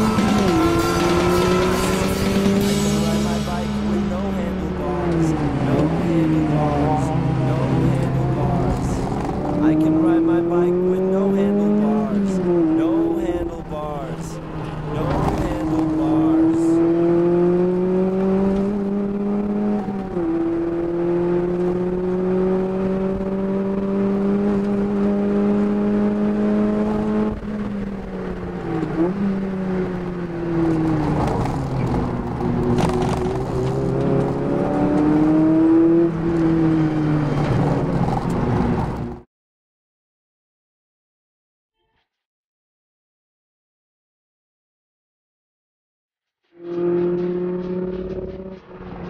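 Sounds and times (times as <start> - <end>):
car engine revving: 0.0 - 39.2, 46.6 - 49.0
road and tyre noise: 0.0 - 39.3, 46.4 - 49.0.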